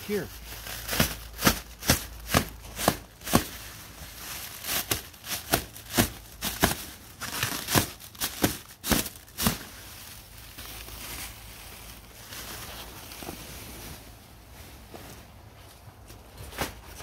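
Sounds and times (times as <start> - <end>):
plastic wrapping crinkling: 0.1 - 13.8.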